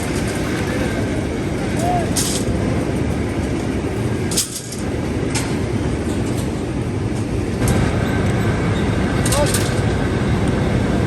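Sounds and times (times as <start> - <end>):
heavy factory machinery rumble: 0.0 - 11.0.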